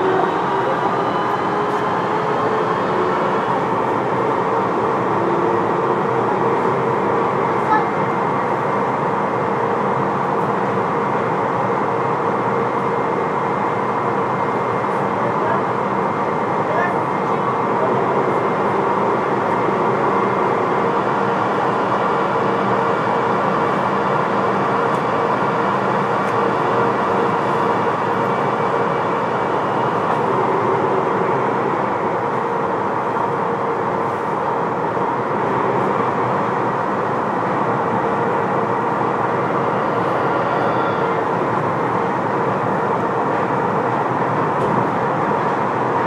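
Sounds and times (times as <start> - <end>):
metro train running in tunnel: 0.0 - 46.0.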